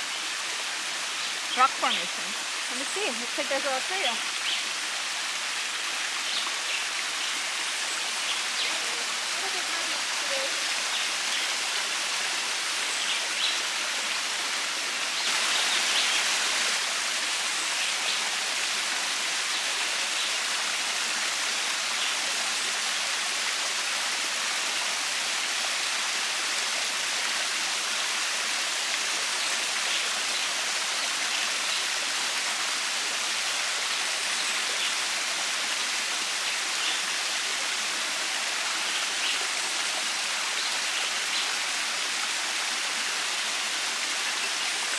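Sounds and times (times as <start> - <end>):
waterfall over rock ledges: 0.0 - 44.9.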